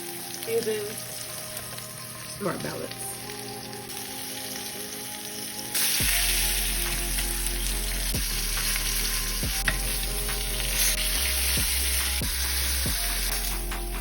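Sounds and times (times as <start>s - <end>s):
steak sizzling in a frying pan: 0.0s - 14.0s.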